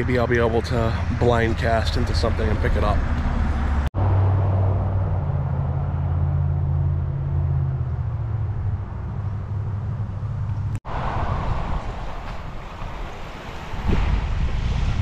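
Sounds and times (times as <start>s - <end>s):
low engine hum: 0.0s - 15.0s
outdoor rumble: 0.0s - 15.0s.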